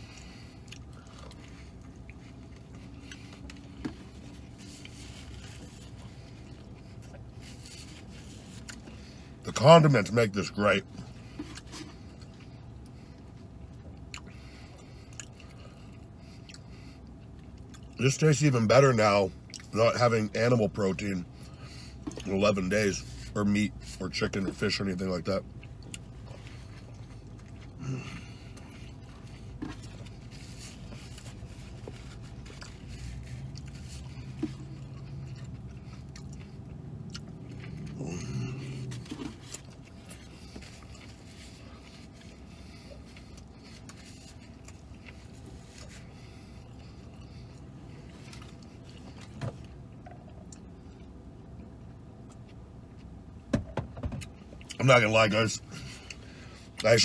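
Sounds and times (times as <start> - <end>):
man chewing a burger: 0.0 - 53.5, 54.2 - 57.0
low steady hum: 0.0 - 57.0.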